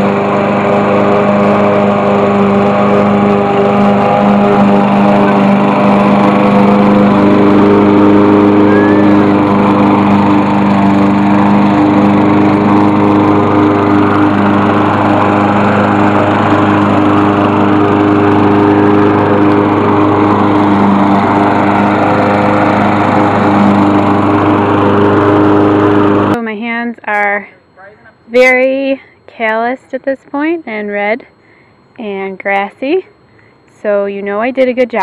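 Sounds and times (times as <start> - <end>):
lawn mower engine running: 0.0 - 35.0.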